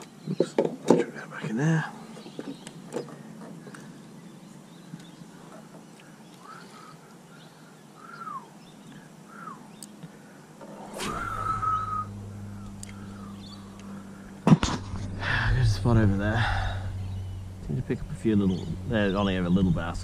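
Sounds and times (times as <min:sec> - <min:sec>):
steady low hum: 0:01.3 - 0:20.0
bird calls: 0:02.0 - 0:14.5, 0:15.2 - 0:20.0.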